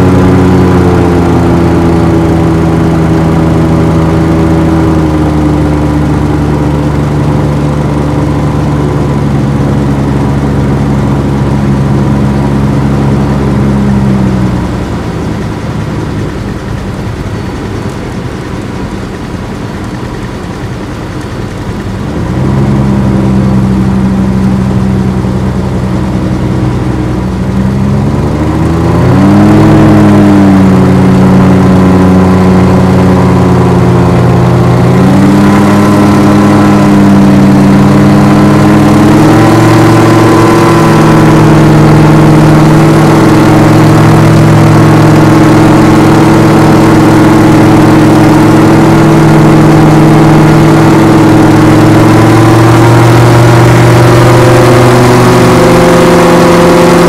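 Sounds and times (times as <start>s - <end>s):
gyroplane engine and propeller: 0.0s - 57.0s.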